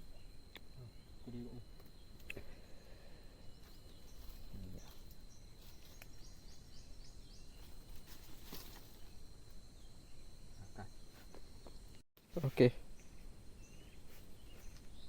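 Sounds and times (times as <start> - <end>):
insect whine: 0.0 - 15.0.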